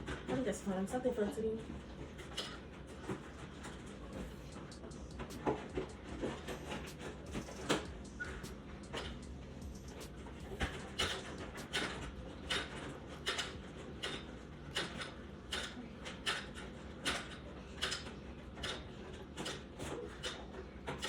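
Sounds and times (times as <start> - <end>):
exercise machine strokes: 0.0 - 21.0.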